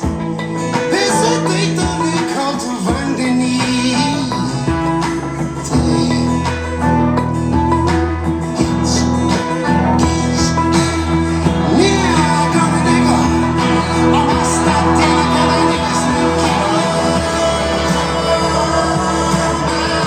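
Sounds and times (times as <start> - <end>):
person singing: 0.0 - 7.2, 8.5 - 20.0
bass line: 0.0 - 20.0.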